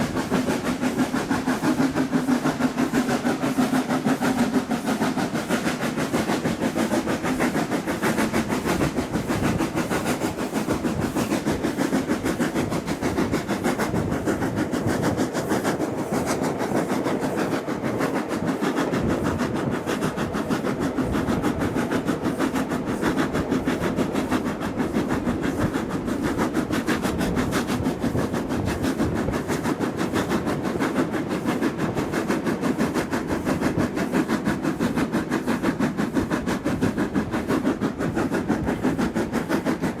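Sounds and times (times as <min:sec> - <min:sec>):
steam train running: 0:00.0 - 0:40.0.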